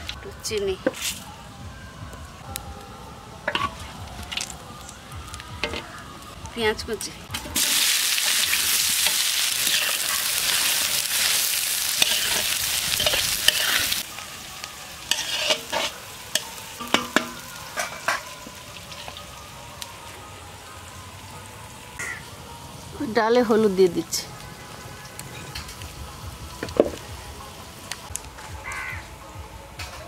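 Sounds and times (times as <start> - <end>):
onions sizzling in hot oil: 3.4 - 29.0.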